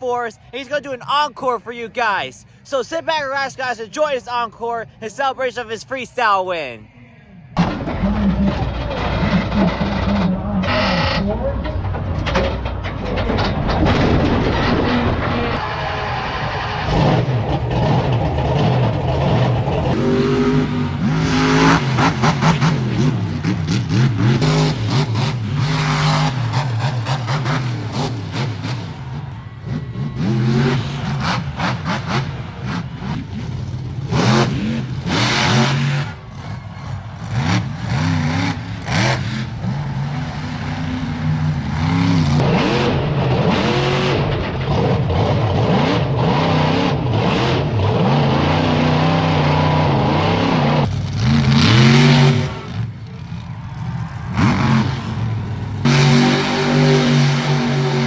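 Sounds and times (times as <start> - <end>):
truck engine revving hard: 7.6 - 58.0.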